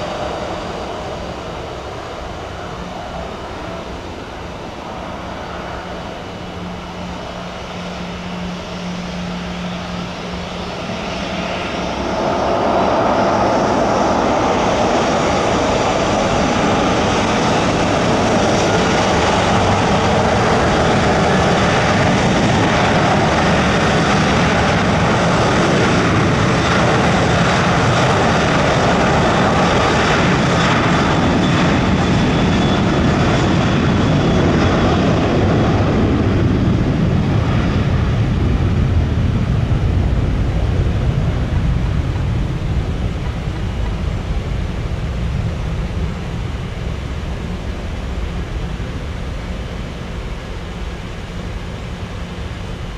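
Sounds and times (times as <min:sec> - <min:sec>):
airliner engines passing: 0:00.0 - 0:52.9.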